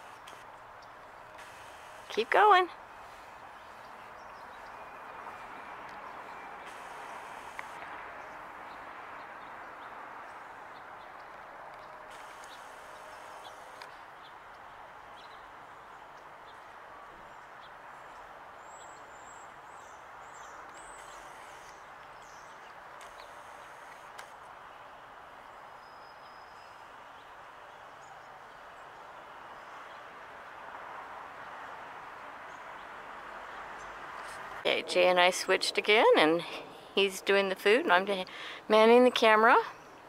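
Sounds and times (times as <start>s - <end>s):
outdoor background noise: 0.0s - 40.0s.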